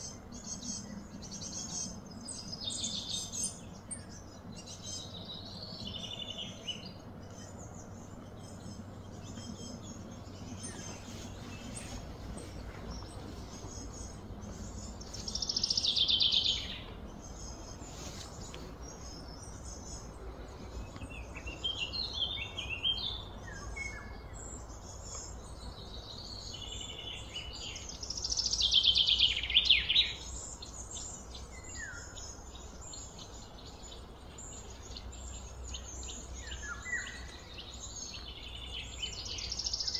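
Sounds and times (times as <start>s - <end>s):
birds calling and chirping: 0.0s - 39.9s
low rumble of background noise: 0.0s - 39.9s.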